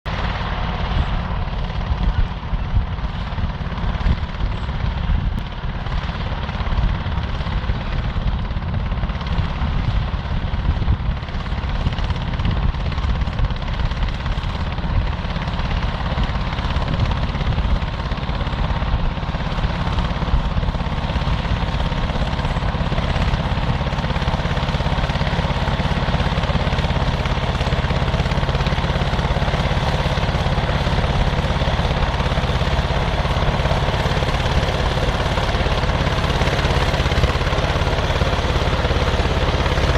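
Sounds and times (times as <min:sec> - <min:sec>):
dozer engine rumbling: 0:00.1 - 0:39.9.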